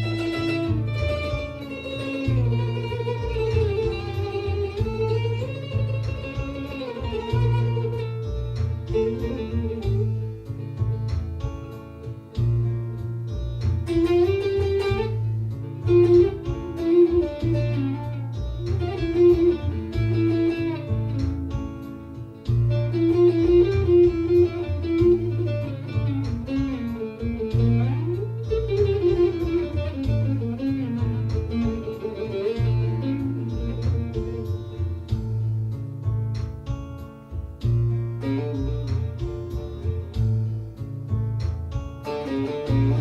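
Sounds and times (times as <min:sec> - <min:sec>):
plucked lute melody: 0:00.0 - 0:43.0
sustained low bass notes: 0:00.0 - 0:43.0.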